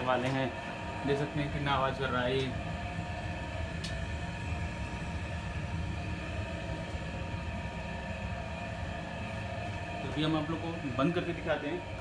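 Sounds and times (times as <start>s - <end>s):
blower fan rumble and hum: 0.0s - 12.0s.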